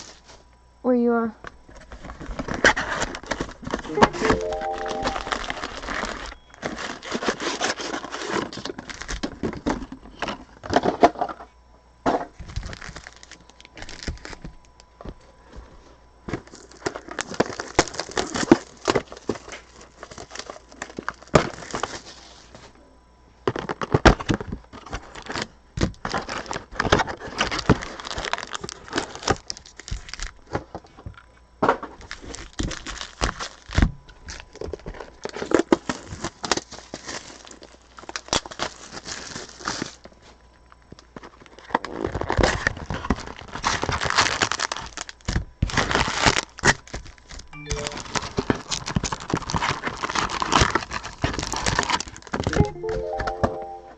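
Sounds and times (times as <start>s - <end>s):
plastic packaging crinkling and tearing: 1.8s - 11.0s, 12.4s - 14.5s, 16.3s - 22.6s, 23.5s - 30.9s, 32.0s - 52.6s.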